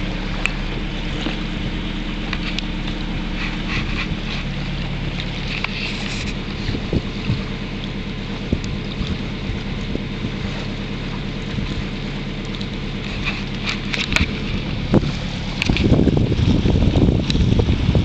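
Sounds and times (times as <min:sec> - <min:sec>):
boat engine droning: 0:00.0 - 0:18.0
water noise: 0:00.0 - 0:18.0
wind: 0:00.0 - 0:18.0.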